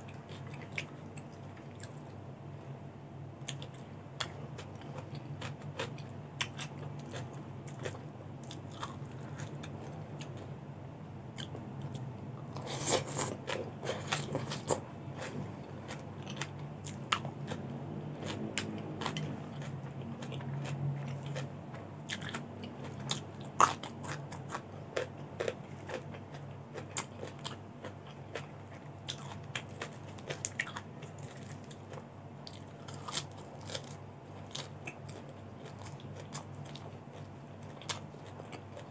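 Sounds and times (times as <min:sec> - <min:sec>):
chewing and crunching vegetables: 0:00.0 - 0:02.2, 0:03.4 - 0:10.5, 0:11.4 - 0:38.9
low steady hum: 0:00.0 - 0:38.9.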